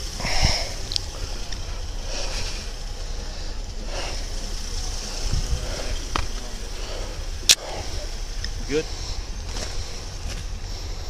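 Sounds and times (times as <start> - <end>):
vehicles idling rumble: 0.0 - 11.0.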